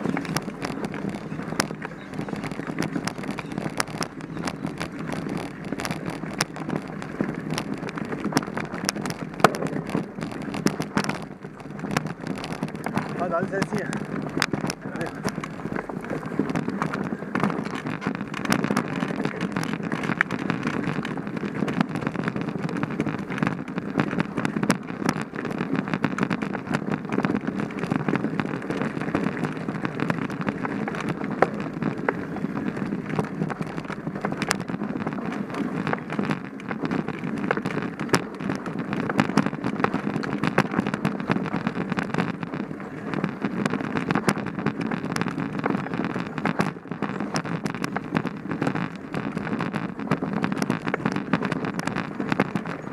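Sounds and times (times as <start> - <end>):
bike rolling over dirt trail: 0.0 - 52.9
small sharp clicks and knocks: 0.0 - 52.9.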